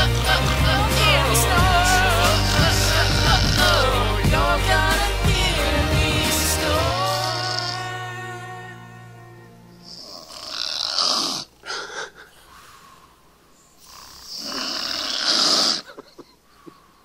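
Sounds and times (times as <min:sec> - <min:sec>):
person snoring: 0:00.0 - 0:08.9, 0:09.8 - 0:13.0, 0:13.8 - 0:16.0.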